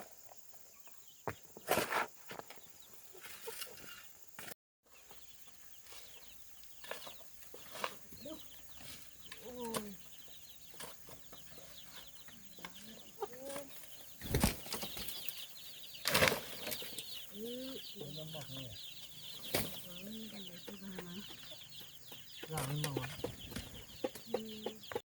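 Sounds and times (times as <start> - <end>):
high peeping chatter: 4.9 - 25.0
poultry clucking and honking: 4.9 - 25.0.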